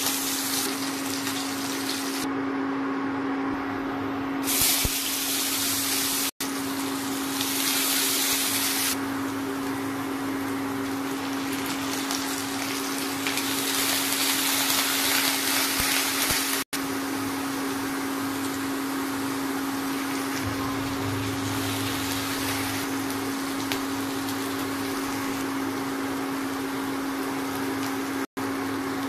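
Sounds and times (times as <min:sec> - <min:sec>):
onions sizzling in hot oil: 0:00.0 - 0:02.3, 0:04.4 - 0:29.0
induction cooktop hum: 0:00.0 - 0:29.0.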